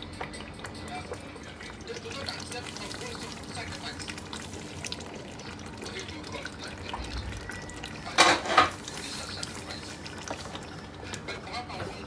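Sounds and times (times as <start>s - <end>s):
stew simmering and bubbling: 0.0s - 12.0s.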